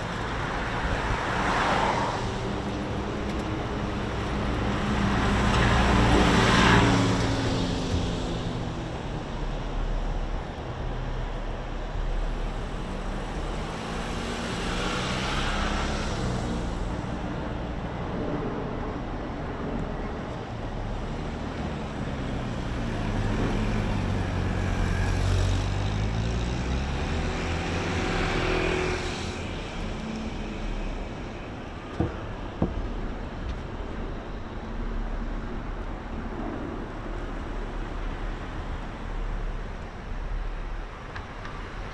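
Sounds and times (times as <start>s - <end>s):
cars passing: 0.0s - 41.9s.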